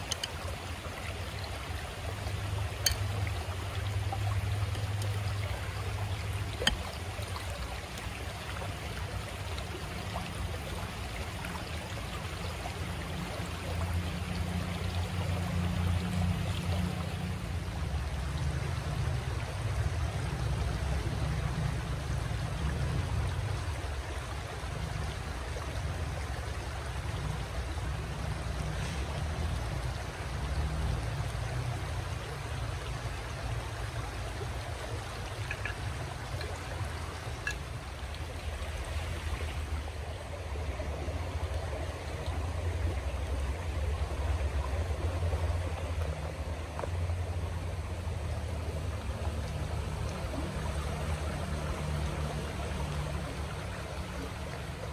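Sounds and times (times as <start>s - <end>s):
stream running over rocks: 0.0s - 54.9s.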